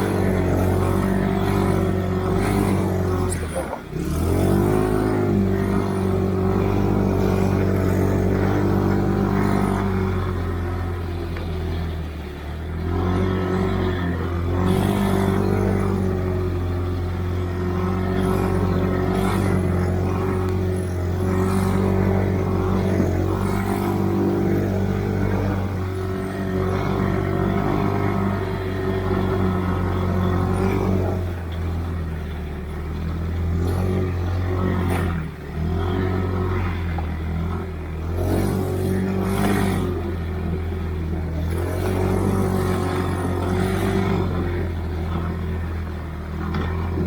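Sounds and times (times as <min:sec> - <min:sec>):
snowmobile engine under throttle: 0:00.0 - 0:47.0.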